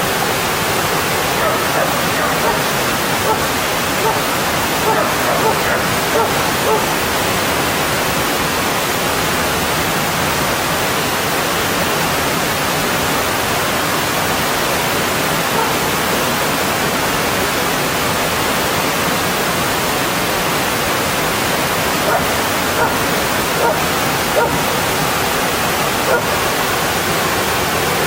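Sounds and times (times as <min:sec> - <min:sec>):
stream water rushing over rocks: 0:00.0 - 0:28.0.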